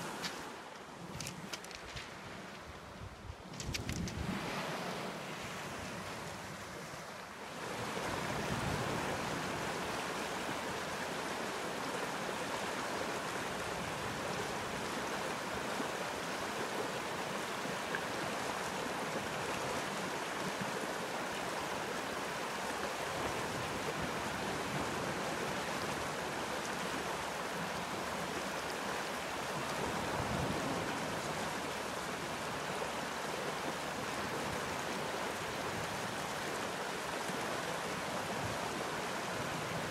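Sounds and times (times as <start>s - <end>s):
stream rushing over rocks: 0.0s - 3.0s, 4.1s - 39.9s.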